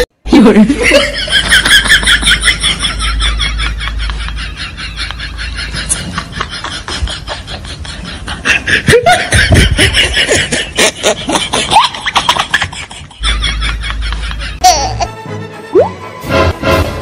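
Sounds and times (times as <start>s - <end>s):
laughter with squeals: 0.3s - 14.7s.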